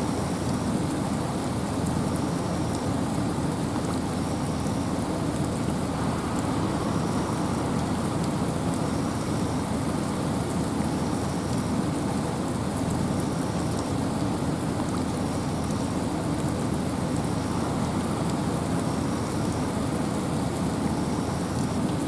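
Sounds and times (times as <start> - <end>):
steady rain in a forest: 0.0 - 22.0
wind: 0.0 - 22.0
raindrops ticking: 0.2 - 22.0.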